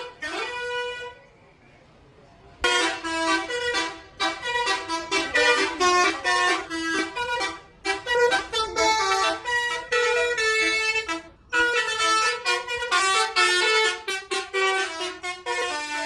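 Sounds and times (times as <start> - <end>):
tuned air horns playing melody: 0.0 - 1.2, 2.6 - 16.0.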